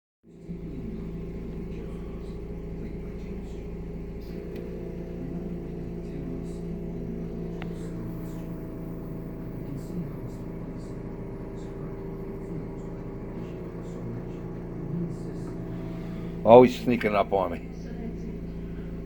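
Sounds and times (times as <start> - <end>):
machine hum with constant tones: 0.3 - 19.0.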